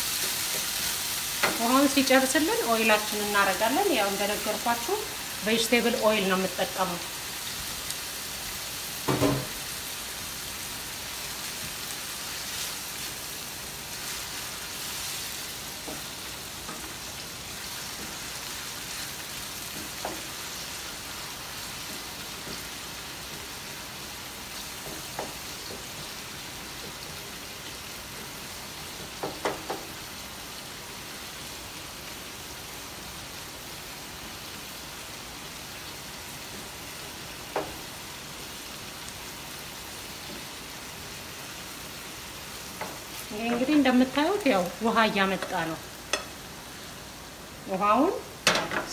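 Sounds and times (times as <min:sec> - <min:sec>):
meat sizzling in a pan: 0:00.0 - 0:48.9.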